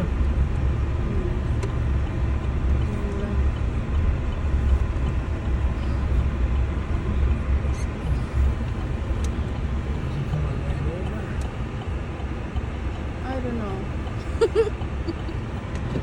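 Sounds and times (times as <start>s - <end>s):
motor vehicle rumbling: 0.0s - 16.0s.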